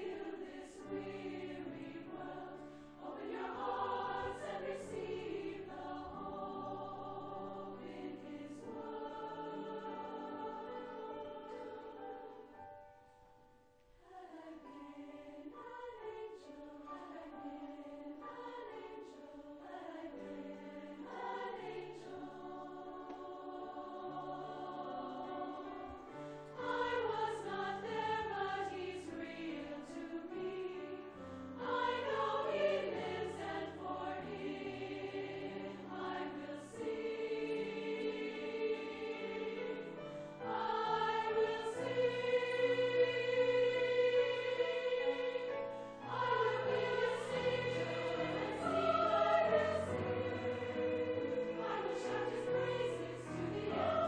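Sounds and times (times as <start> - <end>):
women's choir singing: 0.0 - 12.7, 14.0 - 54.0.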